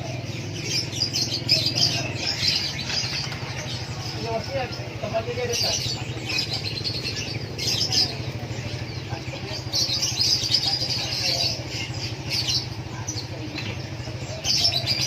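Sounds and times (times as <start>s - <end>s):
caged birds twittering: 0.0s - 15.0s.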